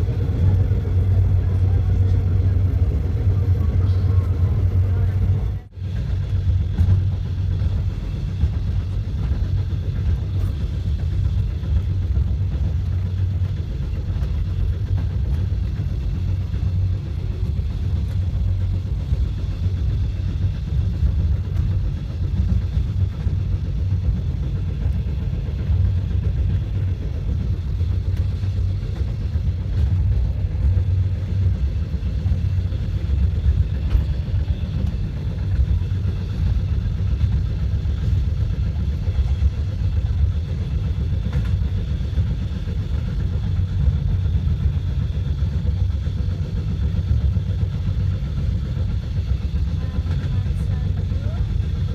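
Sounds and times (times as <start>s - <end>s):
passenger train rumbling: 0.0s - 51.9s.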